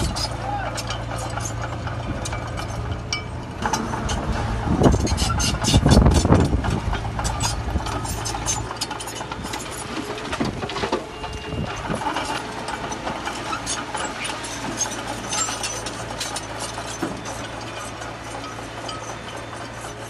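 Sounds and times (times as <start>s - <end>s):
diesel machinery engine: 0.0s - 20.0s.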